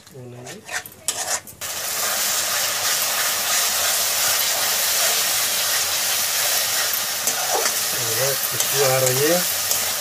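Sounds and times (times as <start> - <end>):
paste sizzling in hot oil: 0.4 - 10.0.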